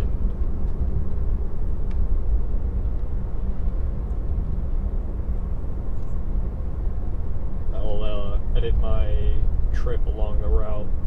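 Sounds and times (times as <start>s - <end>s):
road and tyre rumble: 0.0s - 11.0s.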